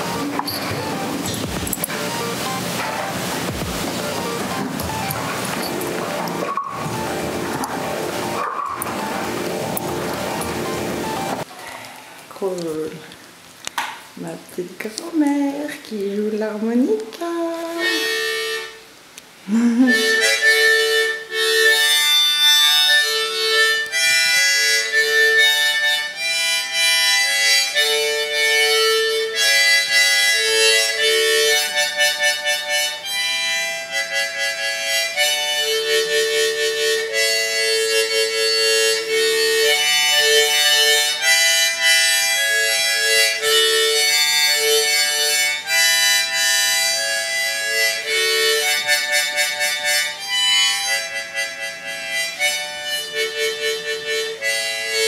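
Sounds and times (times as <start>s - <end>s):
harmonica playing: 0.0s - 11.5s, 17.6s - 55.0s.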